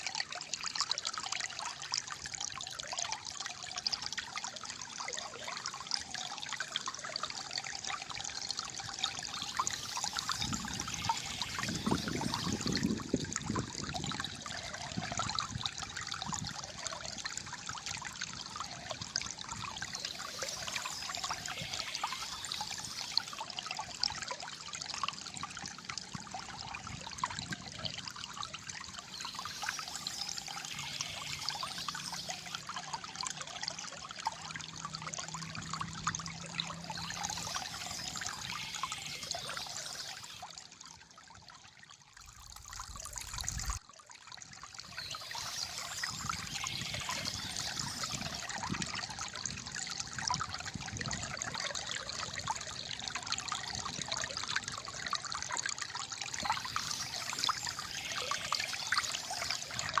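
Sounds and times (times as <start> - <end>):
water trickling and gurgling: 0.0 - 60.0.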